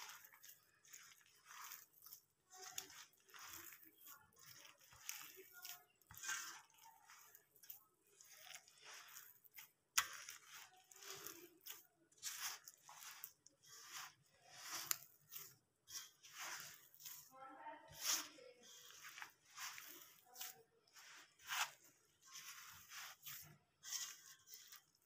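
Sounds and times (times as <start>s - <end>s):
dough scraping in steel bowl: 0.0s - 25.0s.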